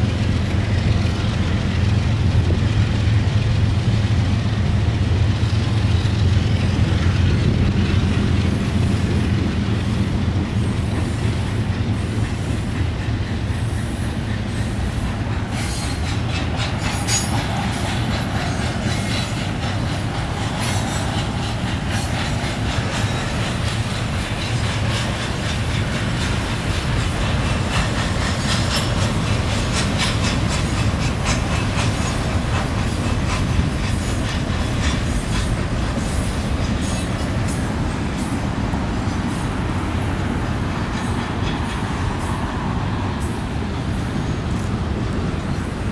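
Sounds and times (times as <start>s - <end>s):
locomotive engine hum: 0.0s - 45.9s
train wheels rattling over rails: 0.0s - 45.9s.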